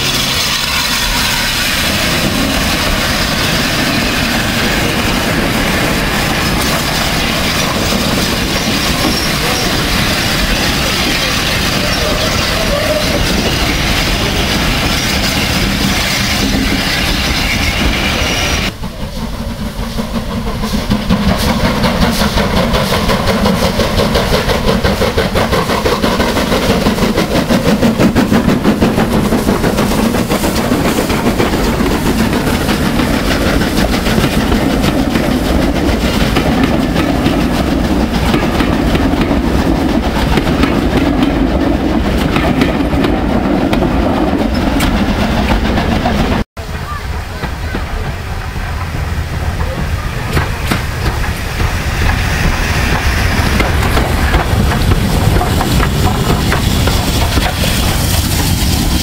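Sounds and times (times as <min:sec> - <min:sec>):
steam train on rails: 0:00.0 - 0:59.0.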